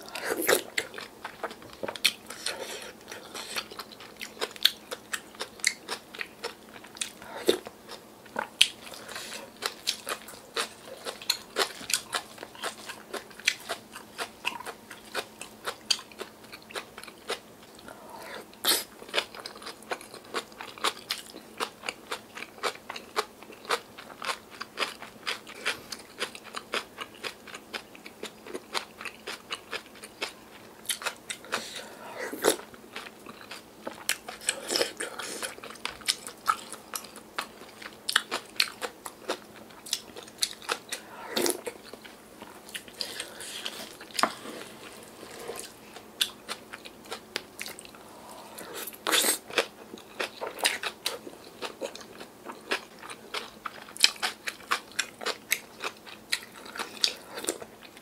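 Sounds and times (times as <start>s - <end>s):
wet chewing and crunching: 0.1s - 17.9s, 18.5s - 58.0s.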